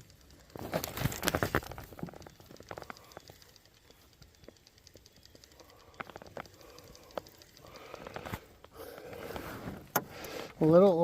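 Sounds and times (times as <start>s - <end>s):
handling clicks and knocks: 0.0s - 11.0s.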